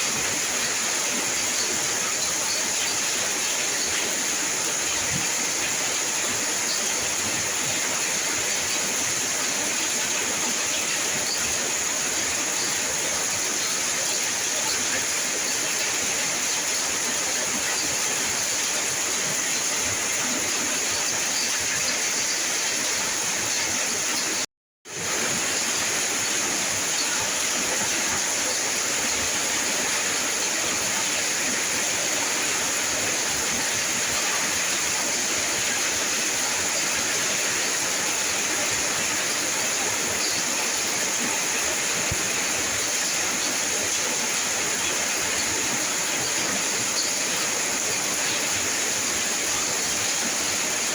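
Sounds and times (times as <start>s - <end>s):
heavy rainfall: 0.0s - 50.9s.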